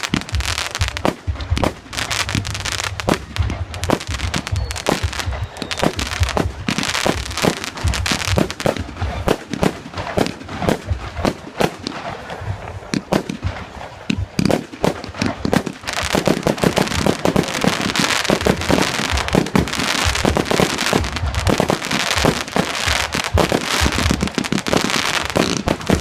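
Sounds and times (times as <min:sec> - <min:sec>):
fireworks exploding: 0:00.0 - 0:26.0
fireworks hissing: 0:00.0 - 0:26.0.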